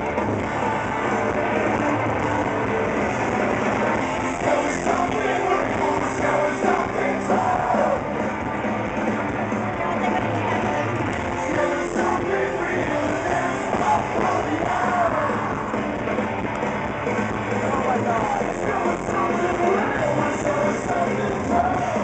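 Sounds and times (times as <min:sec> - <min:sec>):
live rock music with singer: 0:00.0 - 0:22.0.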